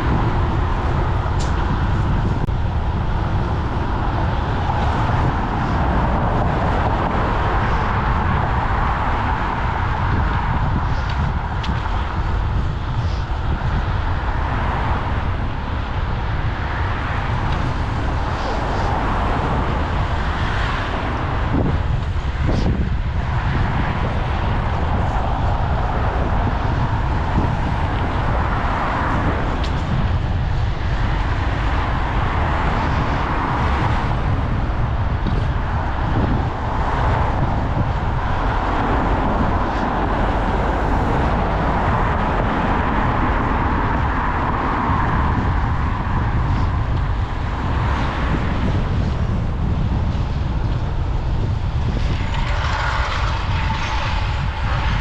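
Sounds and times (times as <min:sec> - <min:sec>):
cars passing by: 0:00.0 - 0:55.0
wind rumbling on microphone: 0:00.0 - 0:55.0.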